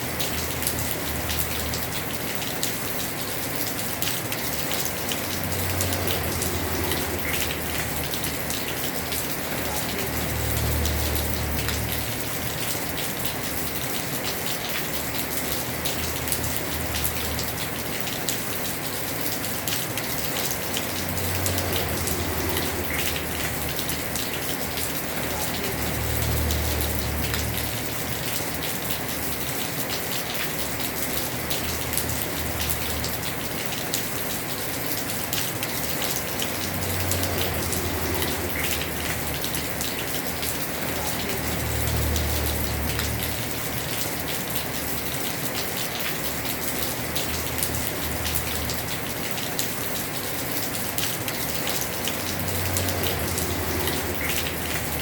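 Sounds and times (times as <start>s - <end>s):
heavy rain on a roof: 0.0s - 55.0s.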